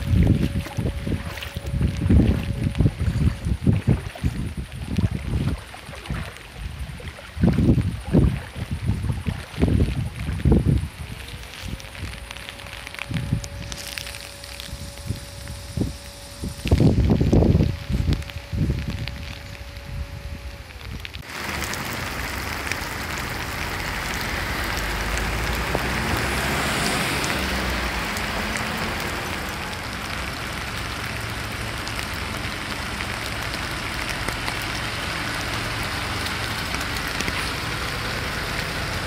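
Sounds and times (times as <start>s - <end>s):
heavy rain pattering: 0.0s - 39.0s
trucks rumbling on wet road: 0.0s - 39.0s.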